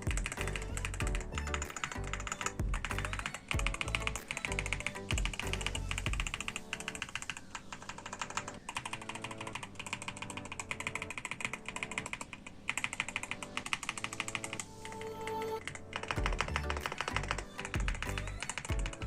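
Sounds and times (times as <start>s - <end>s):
fast typing on mechanical keyboard: 0.0s - 19.0s.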